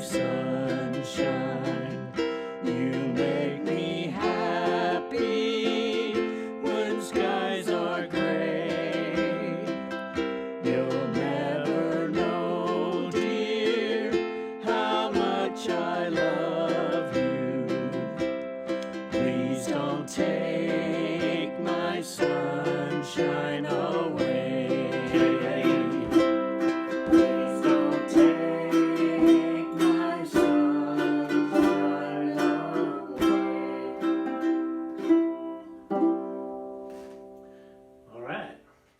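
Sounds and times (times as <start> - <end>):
ukulele strumming chords: 0.0 - 38.0.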